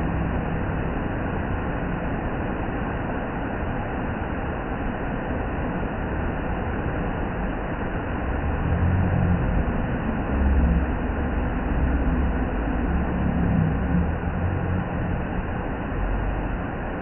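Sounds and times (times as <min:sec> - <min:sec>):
low rumbles: 0:00.0 - 0:17.0.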